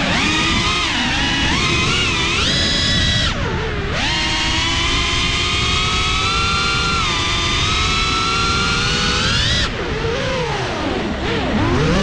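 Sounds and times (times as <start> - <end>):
drone motors and propellers whining: 0.0 - 12.0.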